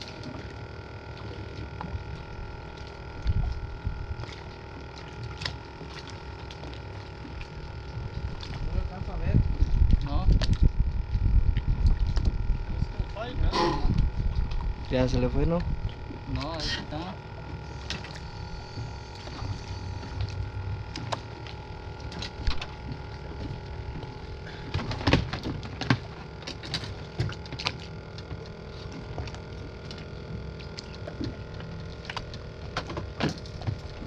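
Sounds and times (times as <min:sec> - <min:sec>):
outboard motor idling: 0:00.0 - 0:34.0.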